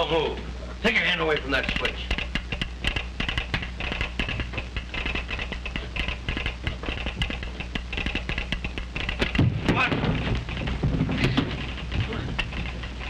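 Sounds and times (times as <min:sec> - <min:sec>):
steady low hum: 0:00.0 - 0:13.0
telegraph sounder clattering: 0:00.0 - 0:13.0.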